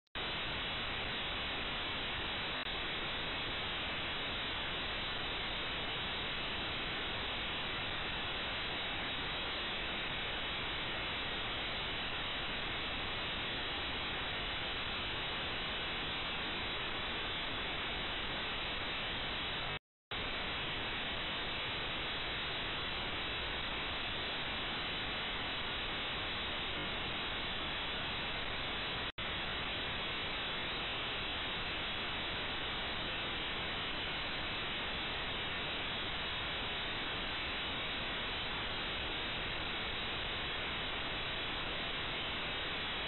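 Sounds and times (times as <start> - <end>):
steady noise: 0.2 - 43.0.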